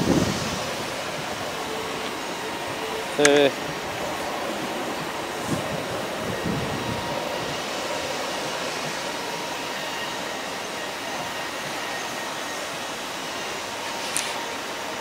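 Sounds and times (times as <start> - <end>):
faint steady whine: 0.0 - 15.0
train carriages rushing past: 0.0 - 15.0.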